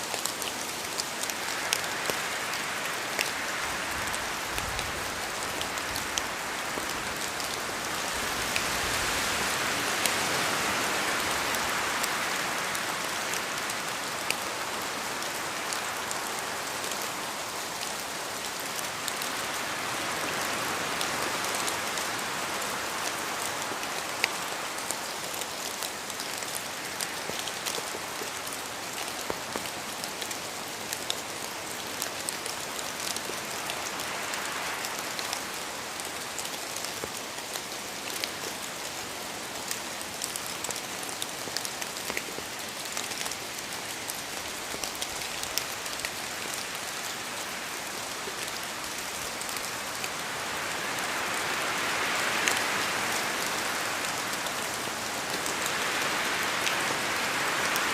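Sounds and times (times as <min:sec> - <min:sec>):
steady rain hissing: 0:00.0 - 0:57.9.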